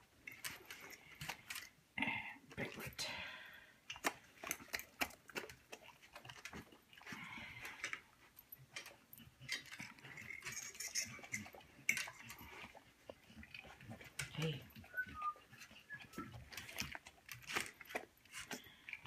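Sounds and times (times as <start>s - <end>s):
dogs eating: 0.0s - 1.9s, 2.6s - 19.0s.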